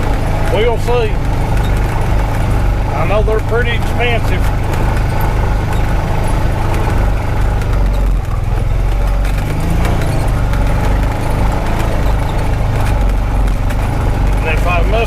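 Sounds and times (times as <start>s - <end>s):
knocks and rattles: 0.0s - 15.0s
utility vehicle engine droning: 0.0s - 15.0s.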